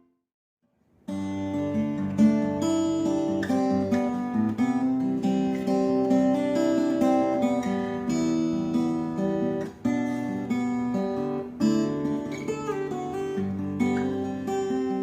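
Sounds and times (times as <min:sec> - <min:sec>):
acoustic guitar chords: 0:01.0 - 0:15.0.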